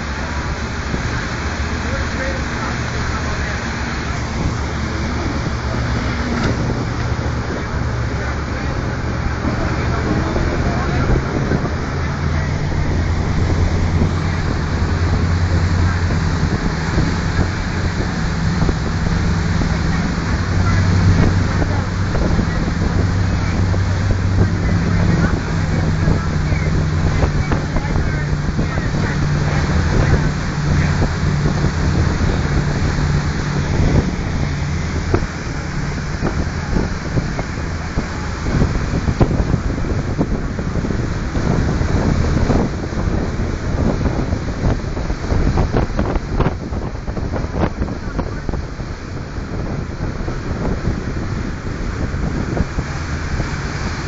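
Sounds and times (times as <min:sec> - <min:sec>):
motorboat engine: 0:00.0 - 0:54.0
rushing water: 0:00.0 - 0:54.0
wind buffeting microphone: 0:00.0 - 0:54.0.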